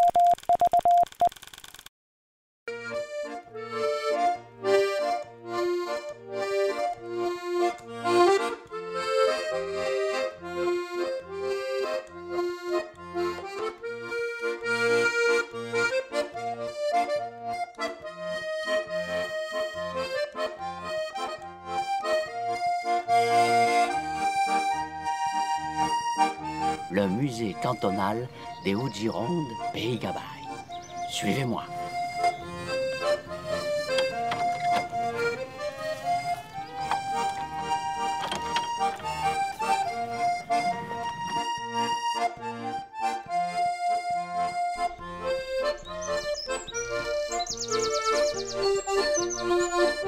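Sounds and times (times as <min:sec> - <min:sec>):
lively accordion music: 0:02.7 - 0:50.0.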